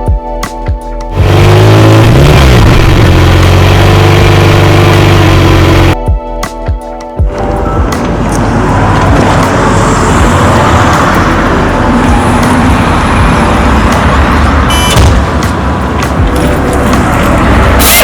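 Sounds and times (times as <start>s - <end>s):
vehicle engine running: 1.1s - 6.0s, 7.5s - 17.9s.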